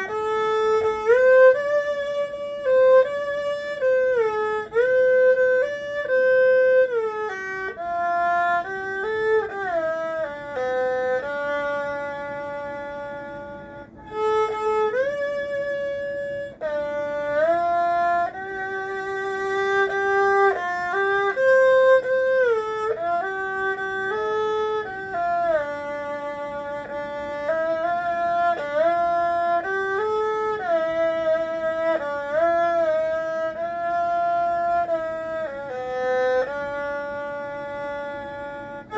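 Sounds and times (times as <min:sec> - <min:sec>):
erhu melody with pitch slides: 0:00.0 - 0:38.9
low sustained accompaniment: 0:00.0 - 0:38.9.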